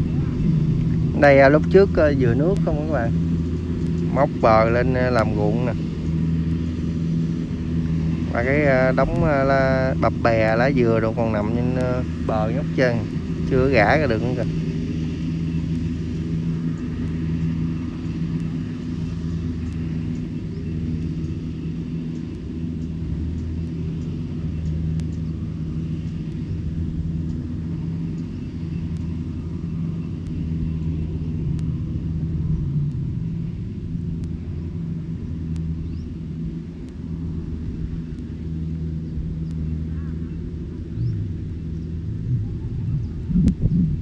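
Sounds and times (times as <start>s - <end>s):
diesel engine humming: 0.0s - 44.0s.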